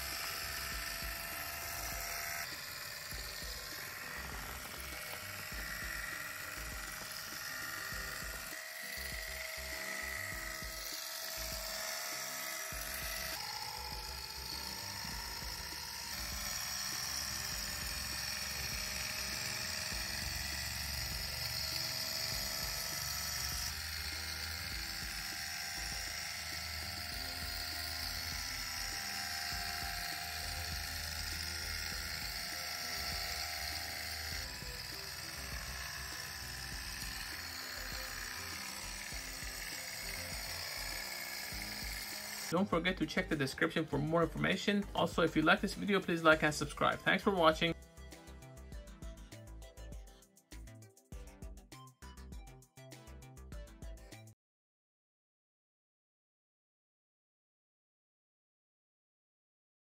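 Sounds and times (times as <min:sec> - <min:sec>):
small electric motor whining: 0:00.0 - 0:50.2.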